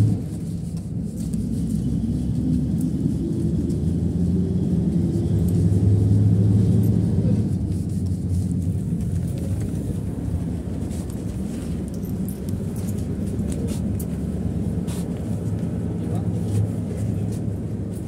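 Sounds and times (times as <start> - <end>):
bus engine drone: 0.0 - 18.0
road rumble: 0.0 - 18.0.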